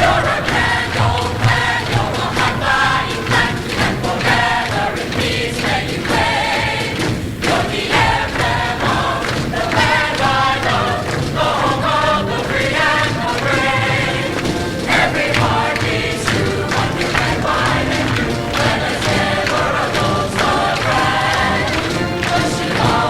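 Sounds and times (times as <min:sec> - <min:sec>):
choir singing in harmony: 0:00.0 - 0:23.0
instrumental accompaniment: 0:00.0 - 0:23.0.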